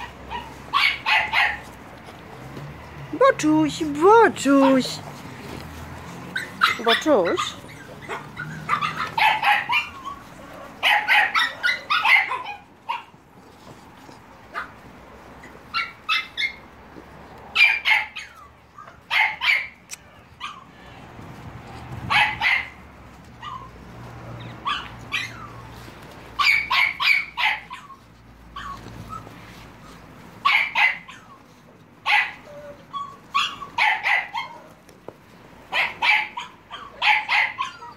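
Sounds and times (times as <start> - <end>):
puppies yipping and barking: 0.0 - 2.8, 3.5 - 20.9, 21.9 - 37.9.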